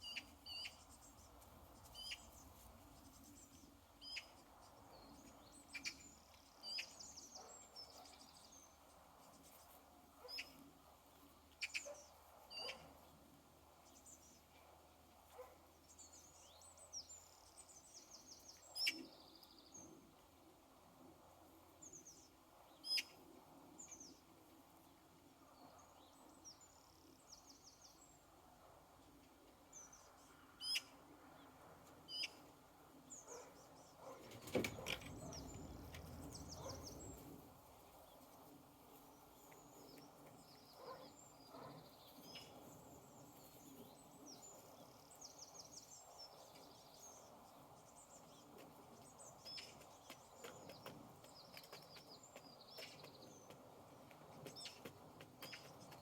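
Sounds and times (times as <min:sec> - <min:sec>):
small birds chirping: 0:00.0 - 0:20.3, 0:29.1 - 0:56.0
rustle: 0:00.0 - 0:56.0.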